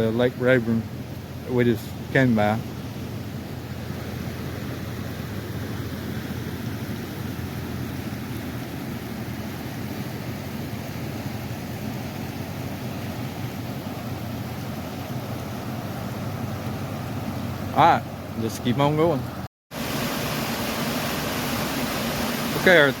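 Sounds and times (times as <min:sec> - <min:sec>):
water rushing from a dam: 0:00.0 - 0:23.0.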